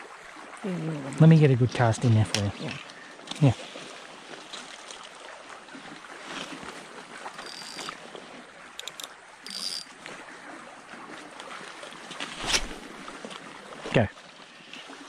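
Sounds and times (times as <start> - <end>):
gravel-bed stream flowing: 0.0 - 15.0.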